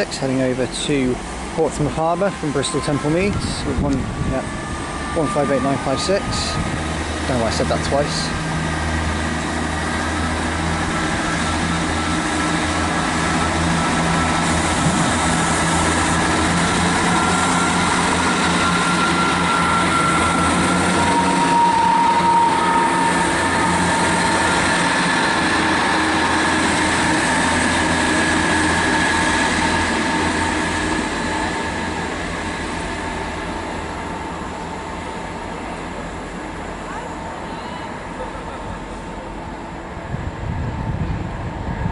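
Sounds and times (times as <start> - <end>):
diesel train engine: 0.0 - 41.9
high whining tones: 1.8 - 41.9.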